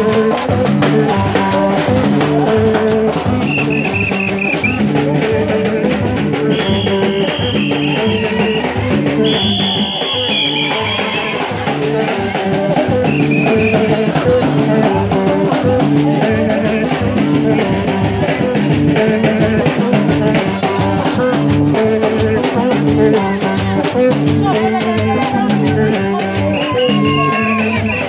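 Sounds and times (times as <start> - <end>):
drum beat: 0.0 - 28.0
repeating bass line: 0.0 - 28.0.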